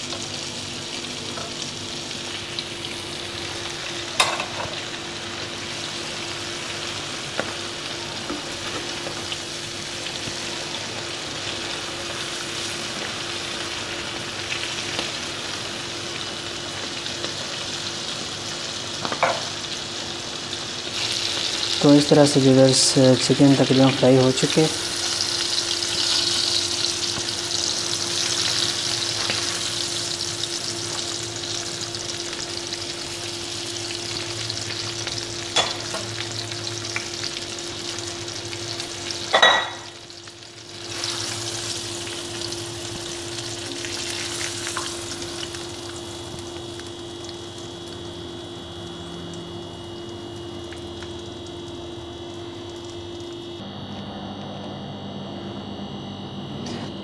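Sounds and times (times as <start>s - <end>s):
chicken sizzling in hot oil: 0.0s - 53.6s.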